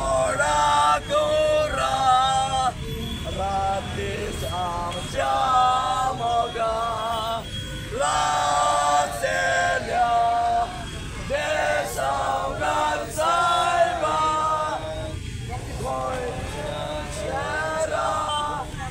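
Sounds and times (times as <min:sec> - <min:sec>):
background voices: 0:00.0 - 0:18.9.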